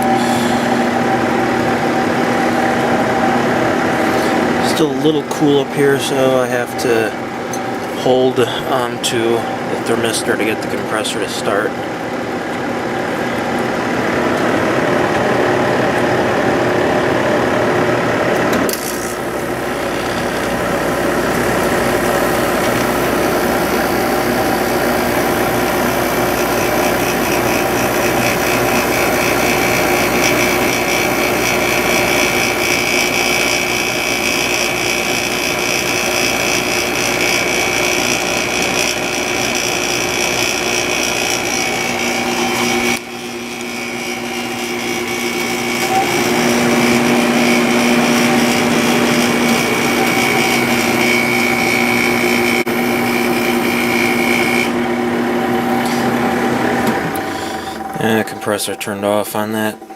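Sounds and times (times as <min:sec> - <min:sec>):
air conditioner fan humming: 0:00.0 - 0:59.9
high whining tones: 0:00.0 - 0:59.9.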